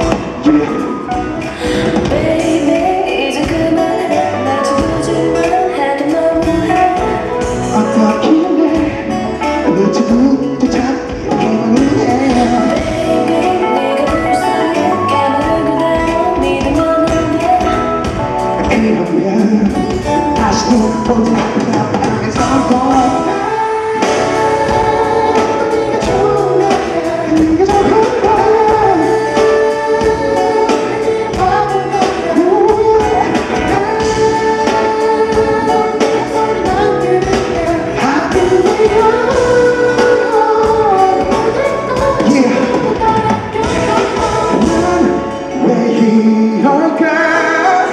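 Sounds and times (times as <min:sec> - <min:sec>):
live pop band playing: 0:00.0 - 0:47.9
person singing: 0:00.0 - 0:47.9.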